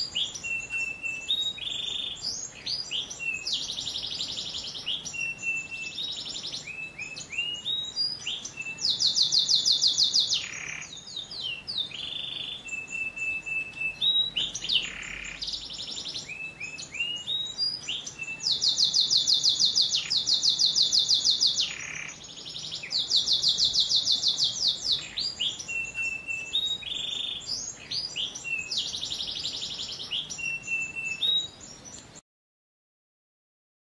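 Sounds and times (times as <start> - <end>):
canary singing trills: 0.0 - 32.2.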